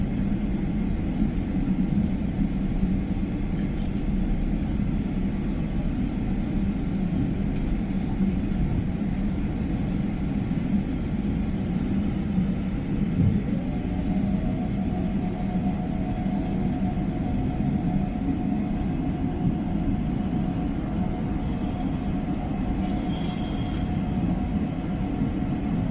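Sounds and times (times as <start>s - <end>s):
jet engines rumbling: 0.0s - 25.9s.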